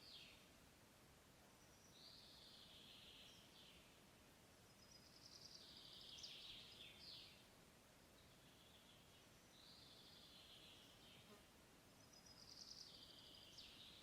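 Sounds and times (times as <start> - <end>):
songbird singing: 0.0 - 0.6, 1.2 - 14.0
quiet forest background: 0.0 - 14.0.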